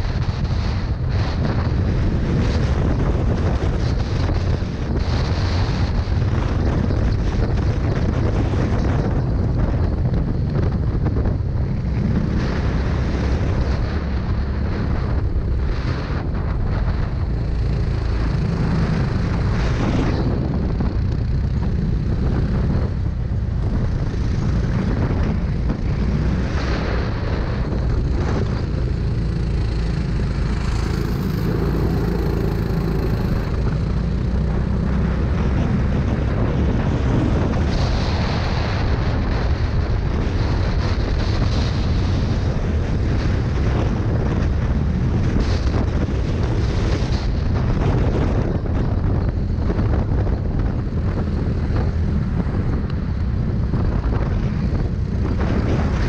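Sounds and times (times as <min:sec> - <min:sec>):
racing kart engine: 0:00.0 - 0:50.1
wind rumble on microphone: 0:00.0 - 0:56.0.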